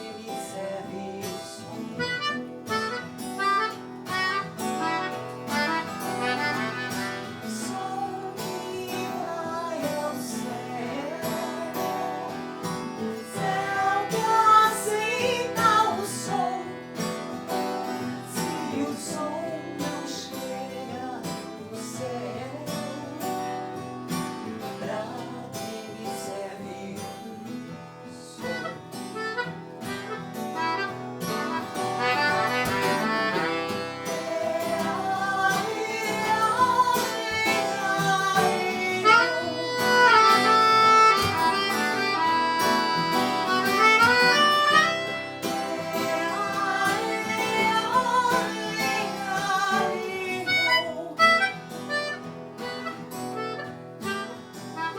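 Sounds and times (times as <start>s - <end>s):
acoustic guitar playing: 0.0s - 54.9s.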